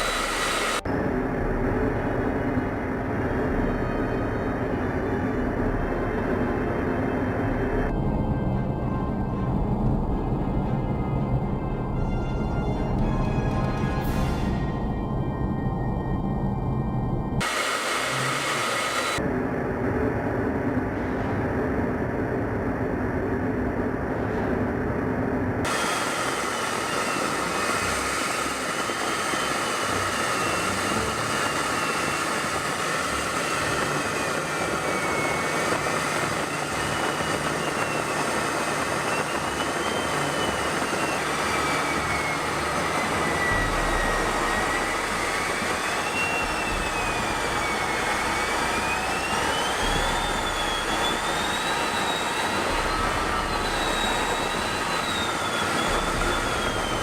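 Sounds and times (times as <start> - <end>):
jet engine rushing and whining: 0.0 - 57.0.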